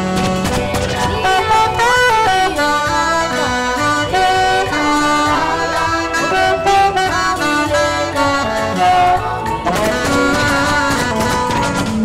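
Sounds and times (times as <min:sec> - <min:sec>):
band accompaniment: 0:00.0 - 0:12.0
saxophone melody: 0:00.0 - 0:12.0.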